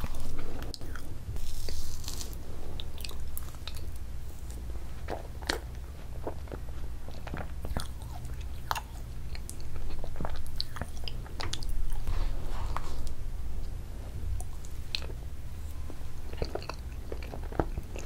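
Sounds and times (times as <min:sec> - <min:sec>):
wet mouth sounds and chewing: 0:00.0 - 0:13.8, 0:14.4 - 0:18.0
steady low hum: 0:00.0 - 0:18.0.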